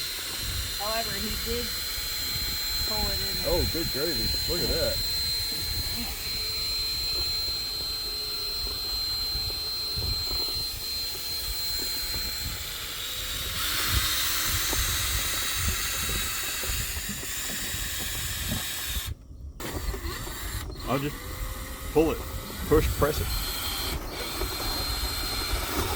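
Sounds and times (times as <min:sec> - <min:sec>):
high thin whine: 0:00.0 - 0:21.2.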